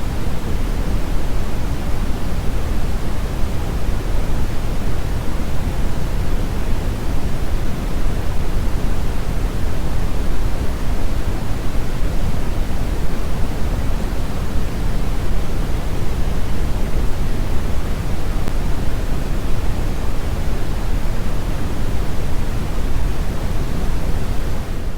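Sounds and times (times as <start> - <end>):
brown noise rumbling hiss: 0.0 - 24.9.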